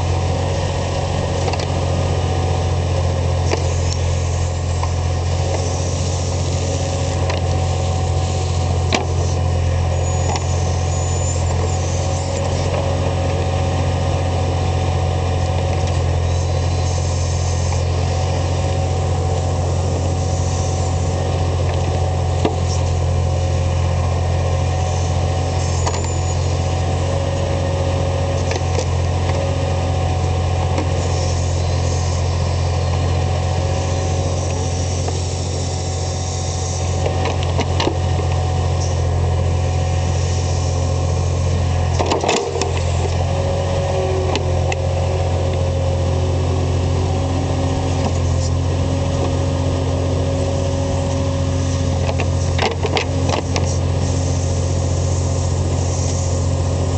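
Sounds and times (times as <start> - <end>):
skid loader engine running: 0.0 - 56.9.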